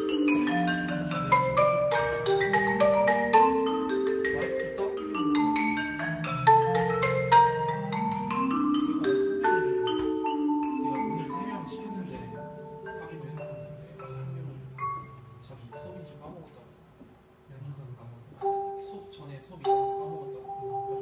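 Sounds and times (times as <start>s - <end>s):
marimba played with four mallets: 0.0s - 16.7s, 18.3s - 21.0s.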